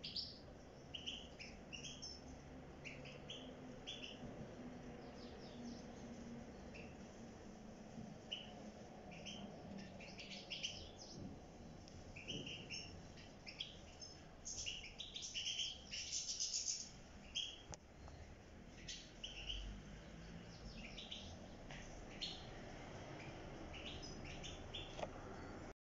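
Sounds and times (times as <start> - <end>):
goldfinches chirping: 0.0 - 7.1, 8.2 - 25.7.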